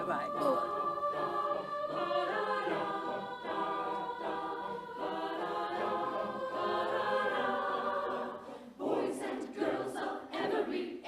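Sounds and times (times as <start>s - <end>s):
choir singing held chords: 0.0s - 11.0s.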